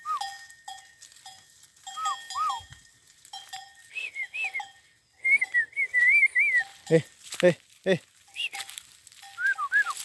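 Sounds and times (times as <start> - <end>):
goat bells clanking: 0.0 - 10.0.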